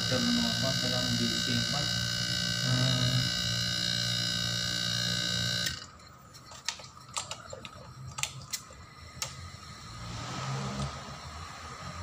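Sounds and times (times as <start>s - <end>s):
electric motor hum with whine: 0.0s - 6.2s, 7.7s - 12.0s.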